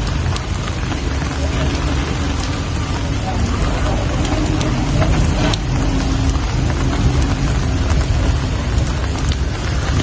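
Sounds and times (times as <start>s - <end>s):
drops ticking: 0.0s - 10.0s
steady rain falling: 0.0s - 10.0s.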